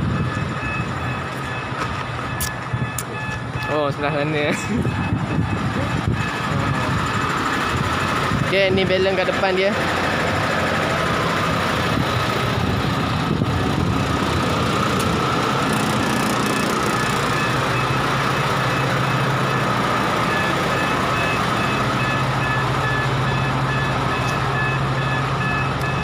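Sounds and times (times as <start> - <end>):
regular beeping: 0.0 - 9.5, 14.1 - 26.0
truck diesel engine idling: 0.0 - 26.0.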